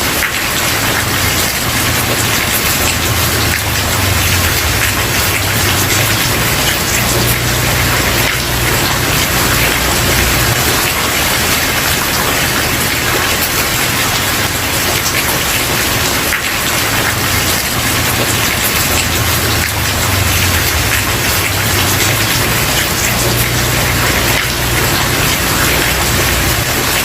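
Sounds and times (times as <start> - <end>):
heavy rain on a wooden porch: 0.0 - 27.0.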